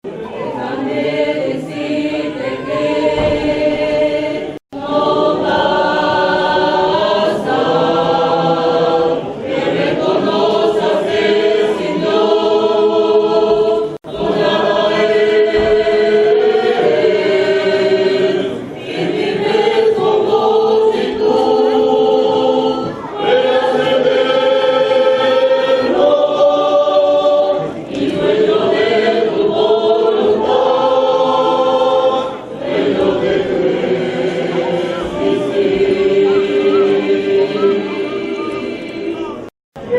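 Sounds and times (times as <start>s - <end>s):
choir singing a hymn: 0.1s - 39.9s.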